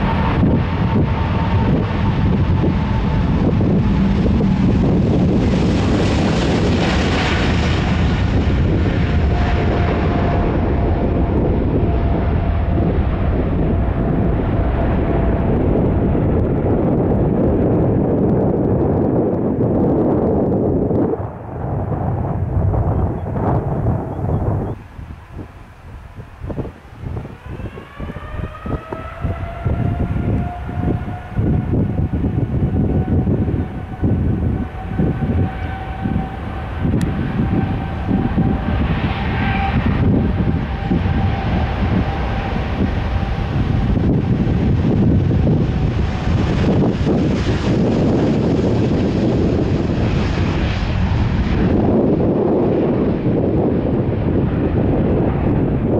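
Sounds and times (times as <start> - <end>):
jet engines rumbling: 0.0 - 55.9
wind on microphone: 0.0 - 55.9.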